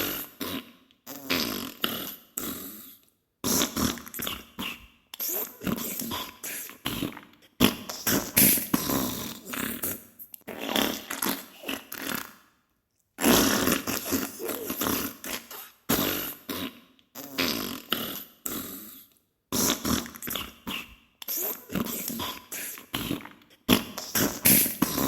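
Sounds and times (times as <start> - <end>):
wet sputtering farts: 0.0 - 2.5, 3.4 - 6.2, 6.9 - 12.5, 13.2 - 18.6, 19.6 - 22.1, 23.0 - 25.0.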